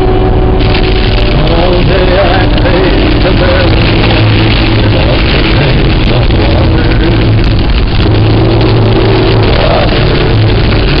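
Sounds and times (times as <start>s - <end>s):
car engine and tyres drone: 0.0s - 11.0s
rain and hail on car roof: 0.6s - 11.0s.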